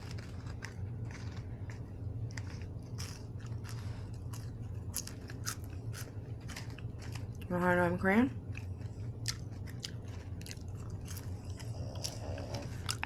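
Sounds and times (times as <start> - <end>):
chewing and crunching fries: 0.0 - 13.0
low steady hum: 0.0 - 13.0.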